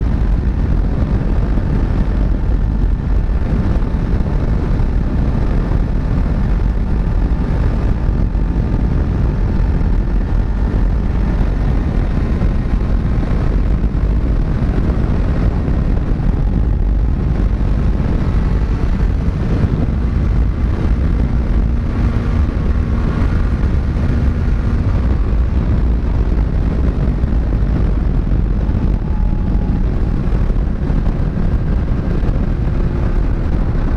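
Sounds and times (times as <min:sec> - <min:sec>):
motorcycle engine drone: 0:00.0 - 0:33.9
wind rushing over microphone: 0:00.0 - 0:33.9.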